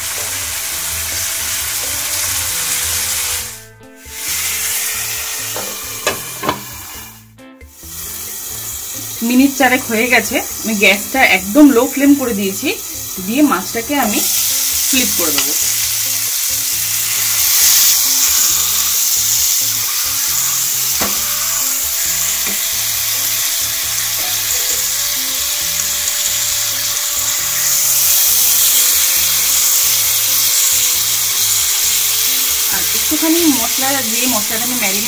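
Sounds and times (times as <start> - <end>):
fish sizzling in a pan: 0.0 - 35.0.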